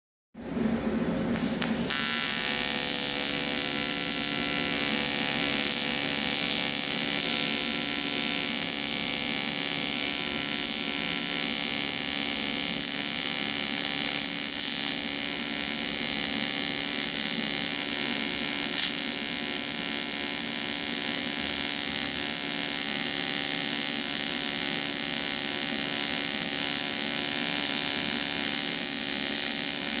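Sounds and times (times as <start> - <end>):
welding arc buzzing hum: 0.5 - 30.0.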